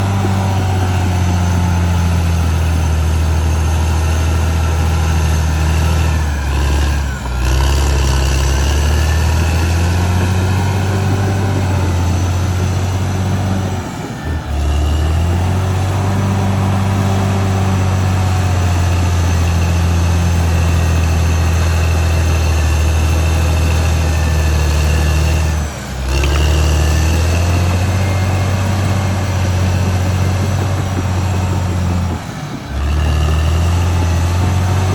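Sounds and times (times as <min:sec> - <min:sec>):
bulldozer diesel engine droning: 0:00.0 - 0:34.9.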